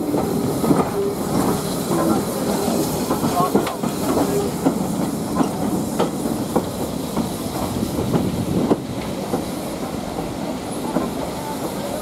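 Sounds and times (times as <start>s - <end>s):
train coaches rumbling: 0.0s - 12.0s.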